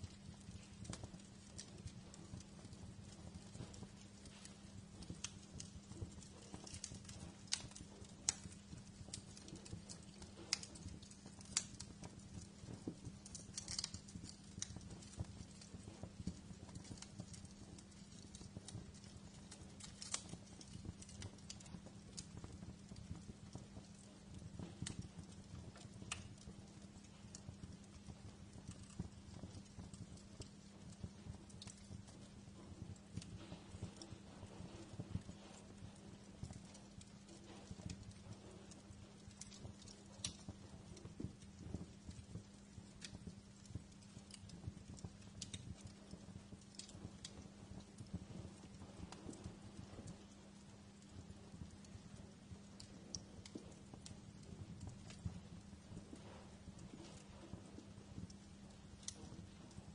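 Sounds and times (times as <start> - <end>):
low rumble of burning: 0.0 - 59.9
low steady hum: 0.0 - 59.9
wood fire crackling: 0.0 - 59.9.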